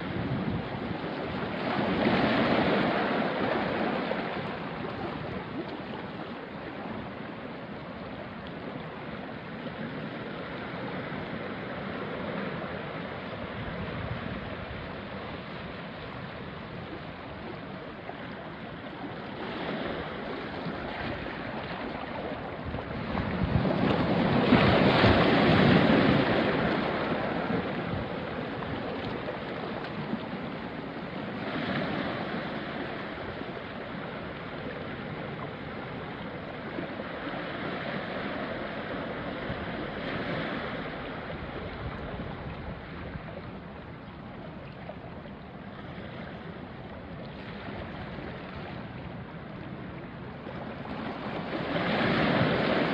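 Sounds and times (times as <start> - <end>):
waves washing onto rocky shore: 0.0 - 52.9.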